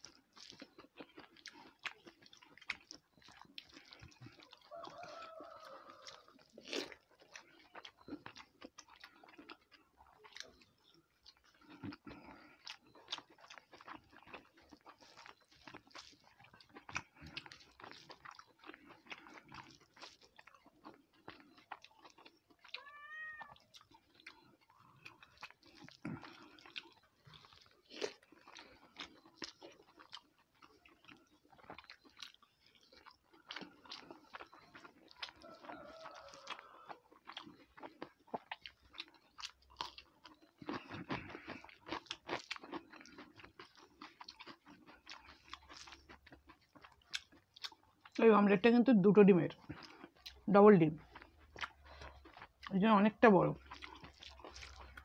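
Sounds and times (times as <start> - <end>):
person chewing food: 0.0 - 48.2, 49.3 - 52.7, 53.4 - 55.0.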